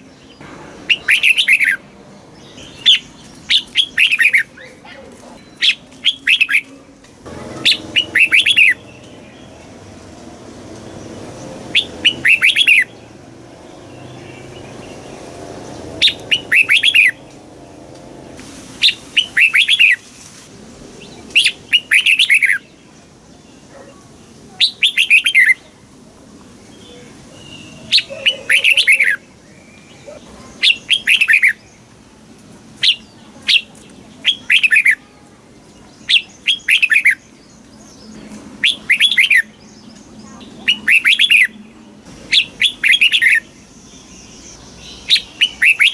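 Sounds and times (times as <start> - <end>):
bulbul singing: 0.0 - 20.1, 21.0 - 23.8, 26.7 - 32.0, 32.8 - 45.9.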